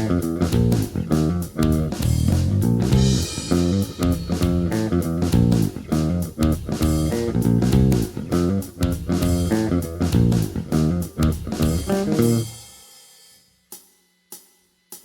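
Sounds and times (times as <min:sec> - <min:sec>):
electric bass run of notes: 0:00.0 - 0:12.5.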